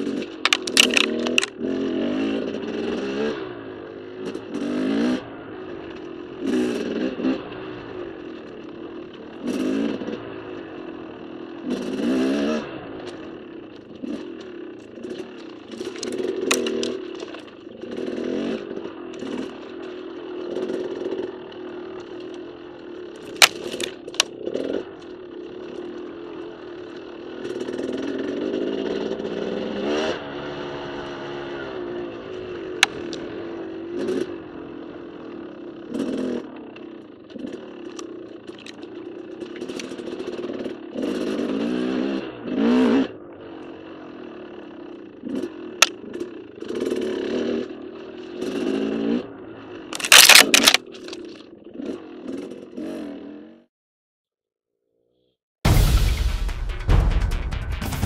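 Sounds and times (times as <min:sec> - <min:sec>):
dirt bike engine revving: 0:00.0 - 0:53.6.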